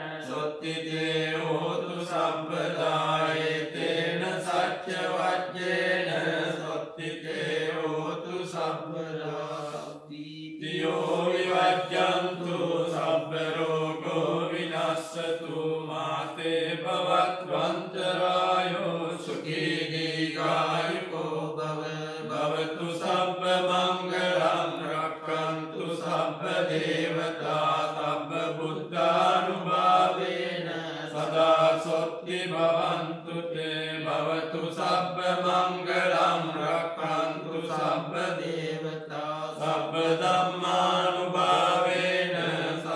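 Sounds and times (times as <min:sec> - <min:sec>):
monks chanting in unison: 0:00.0 - 0:42.9.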